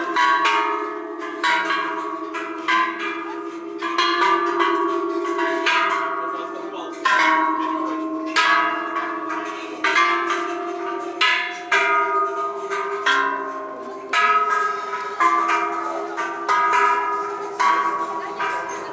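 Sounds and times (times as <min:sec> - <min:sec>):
large bronze bells ringing: 0:00.0 - 0:18.9.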